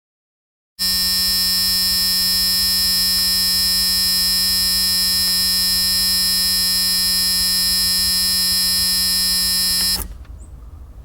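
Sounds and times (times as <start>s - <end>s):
car warning buzzer: 0.8s - 10.1s.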